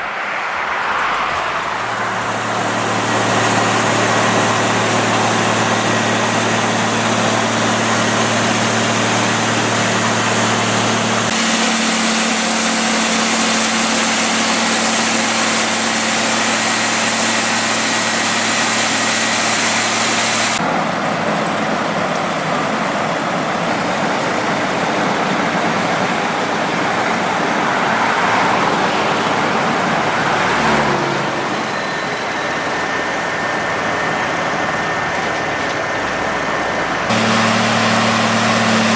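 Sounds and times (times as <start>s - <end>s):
harsh grinding of asphalt: 0.0s - 38.9s
heavy diesel engines running: 0.0s - 38.9s.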